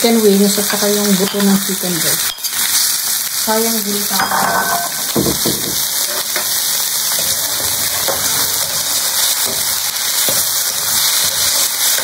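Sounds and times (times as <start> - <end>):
chicken sizzling in wok: 0.0 - 12.0.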